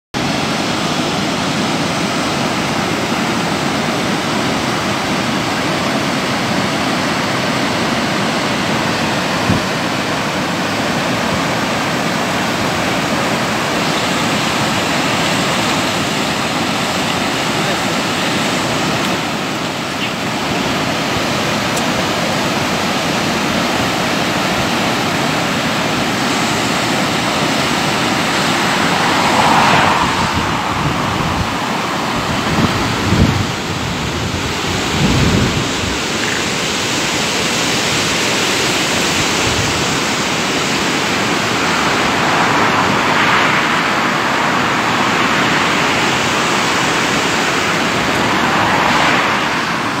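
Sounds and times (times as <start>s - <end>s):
river water rushing over weir: 0.2s - 50.0s.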